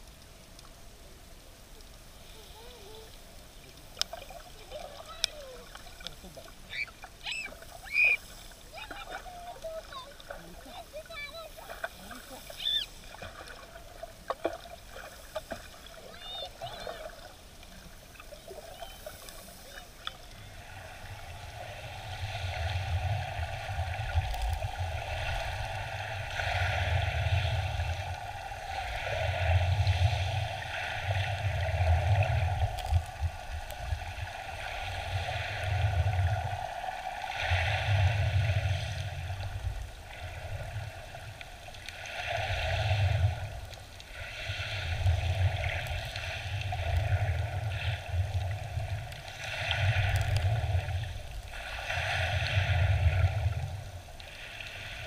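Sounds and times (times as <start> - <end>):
muffled underwater water rushing: 0.0 - 55.0.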